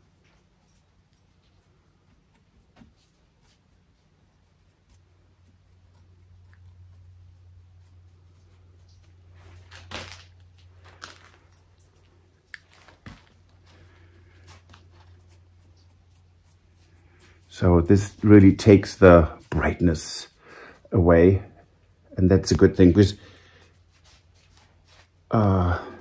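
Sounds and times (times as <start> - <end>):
paintbrush dabbing: 0.0 - 9.8, 12.4 - 25.3
low steady hum: 0.0 - 26.0.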